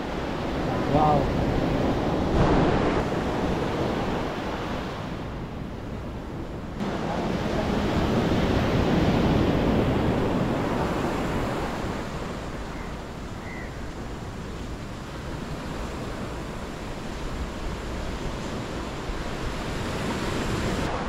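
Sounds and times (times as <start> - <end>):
surf washing up beach: 0.0 - 21.0
wind on microphone: 0.0 - 21.0.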